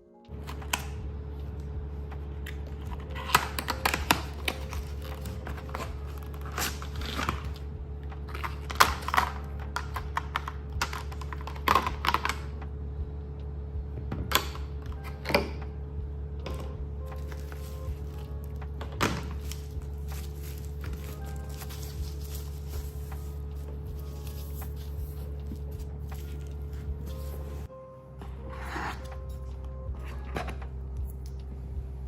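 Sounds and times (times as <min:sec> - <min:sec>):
steady low hum: 0:00.2 - 0:32.0.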